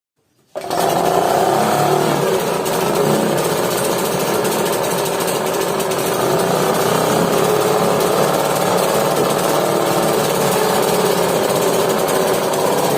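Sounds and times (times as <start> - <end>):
outboard motor rattling: 0.6 - 12.9.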